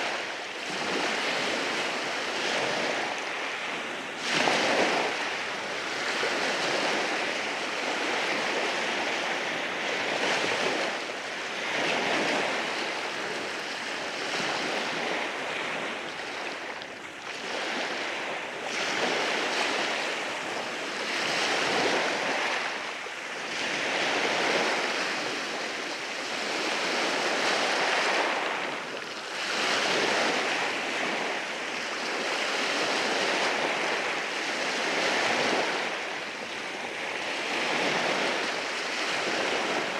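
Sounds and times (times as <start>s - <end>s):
waves breaking on rocky shore: 0.0s - 39.9s.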